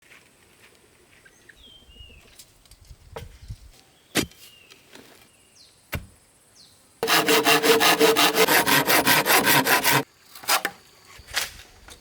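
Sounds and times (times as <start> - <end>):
faint rural background: 0.0 - 12.0.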